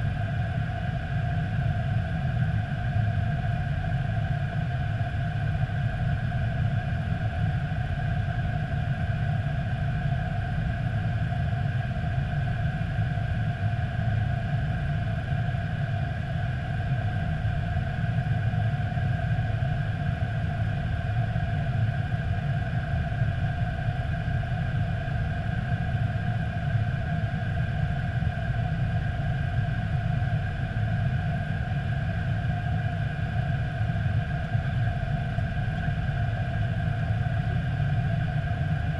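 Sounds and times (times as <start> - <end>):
low rumble of airflow and engines: 0.0 - 38.9
steady high hum tones: 0.0 - 38.9.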